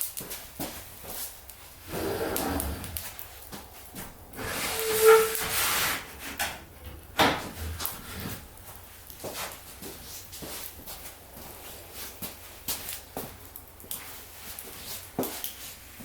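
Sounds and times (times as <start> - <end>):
wood fire hissing: 0.0 - 16.0.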